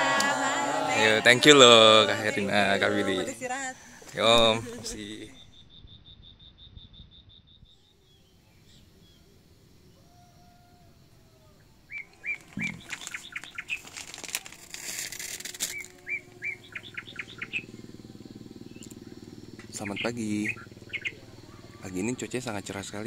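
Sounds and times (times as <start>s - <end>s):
birds chirping: 0.0s - 5.7s, 7.5s - 14.5s, 15.6s - 23.0s.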